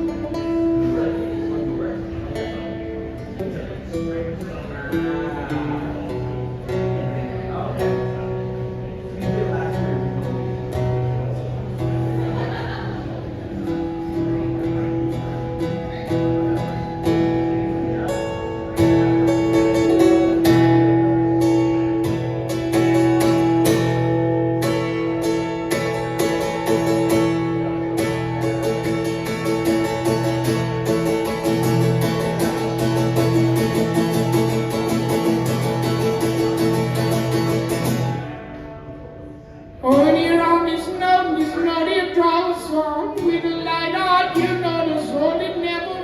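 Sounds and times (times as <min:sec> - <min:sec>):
acoustic guitar strumming chords: 0:00.0 - 0:46.0.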